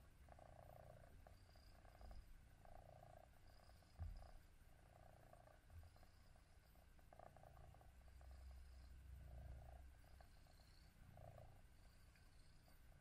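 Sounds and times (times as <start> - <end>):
cat purring faintly: 0.0 - 13.0.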